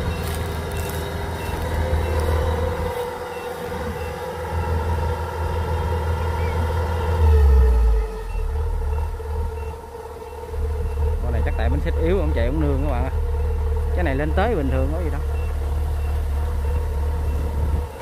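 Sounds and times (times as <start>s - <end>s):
high warning beeps: 0.0s - 4.9s, 8.2s - 18.0s
combine harvester diesel engine: 0.0s - 18.0s.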